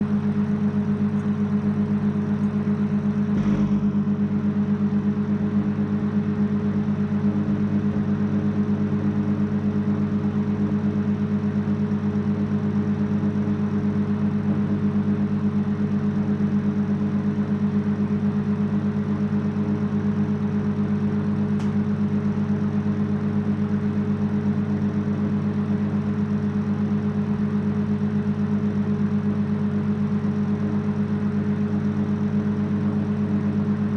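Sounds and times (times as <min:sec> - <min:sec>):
microwave oven humming: 0:00.0 - 0:33.9.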